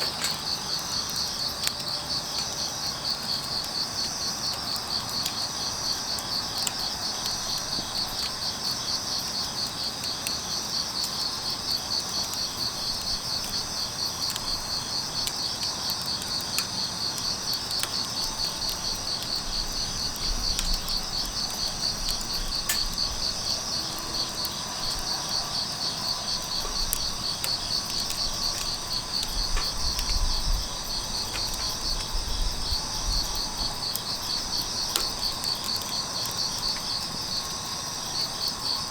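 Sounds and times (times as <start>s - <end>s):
crickets chirping: 0.0s - 38.9s
wood fire crackling: 0.0s - 38.9s.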